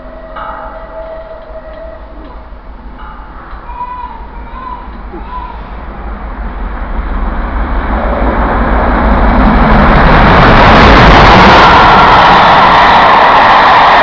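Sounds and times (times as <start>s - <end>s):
steam locomotive passing: 0.0s - 14.0s
train coaches going by: 0.0s - 14.0s.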